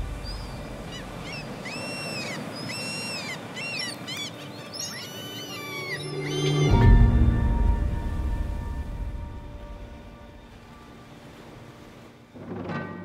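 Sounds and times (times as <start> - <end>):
gulls calling: 0.0 - 12.6
sea surf: 0.0 - 13.0.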